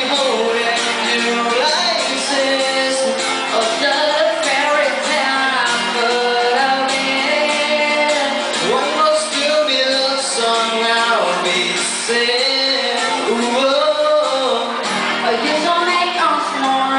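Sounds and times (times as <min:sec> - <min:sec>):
live pop band: 0:00.0 - 0:16.9
person singing: 0:00.0 - 0:16.9.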